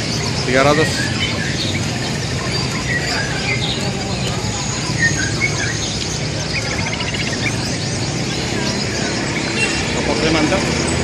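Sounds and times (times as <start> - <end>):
murmur of voices: 0.0 - 11.0
songbirds chirping and whistling: 0.0 - 11.0.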